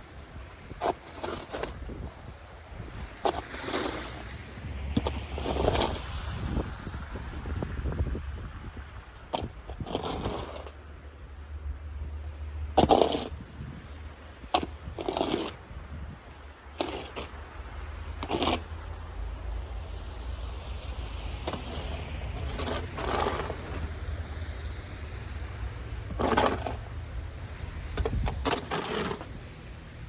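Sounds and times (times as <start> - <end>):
snow shovel scraping pavement: 0.0 - 6.6, 9.2 - 18.9, 19.8 - 30.0.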